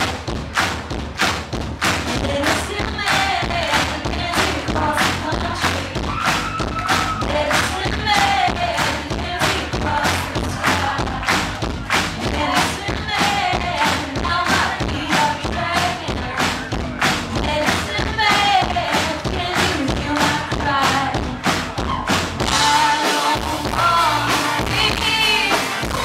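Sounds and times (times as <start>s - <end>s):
heavy steady drum beat: 0.0s - 26.0s
sung vocals: 2.1s - 11.5s, 12.2s - 21.4s, 22.4s - 26.0s.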